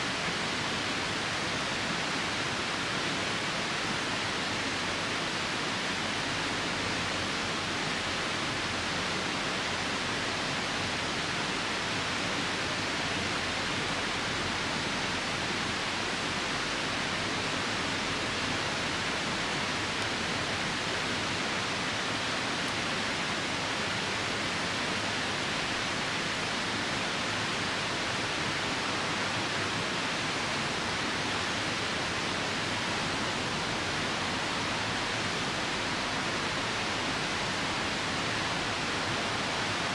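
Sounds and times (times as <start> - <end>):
rain falling: 0.0 - 39.9
river rushing: 0.0 - 39.9.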